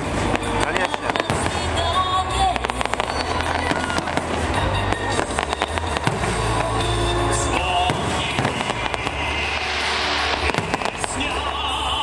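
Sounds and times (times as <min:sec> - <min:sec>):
fireworks bursting with bangs: 0:00.0 - 0:12.0
fireworks crackling: 0:00.0 - 0:12.0
music playing: 0:00.0 - 0:12.0.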